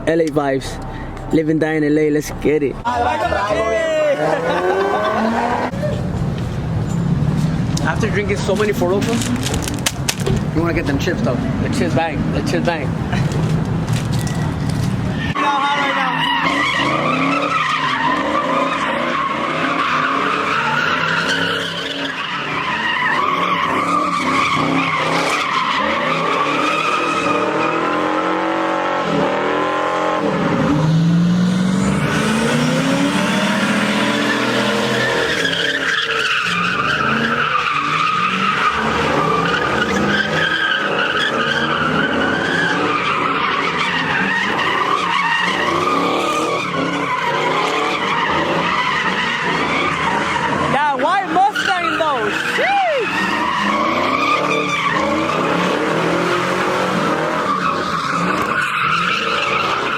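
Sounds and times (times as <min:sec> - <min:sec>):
car engine revving: 0:02.2 - 0:59.9
tyres squealing: 0:07.8 - 0:28.3, 0:31.7 - 0:59.9.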